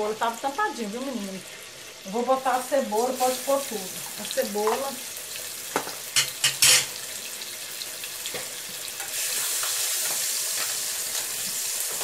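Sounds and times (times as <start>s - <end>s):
onion sizzling in a saucepan: 0.0s - 12.0s.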